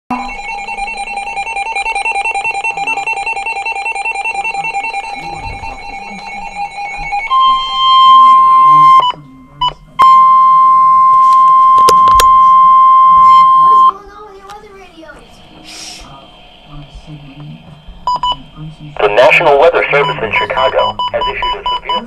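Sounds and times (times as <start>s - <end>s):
pulsing electronic alarm: 0.1s - 14.0s, 15.3s - 22.0s
steady warning alarm tone: 0.1s - 14.3s, 15.1s - 22.0s.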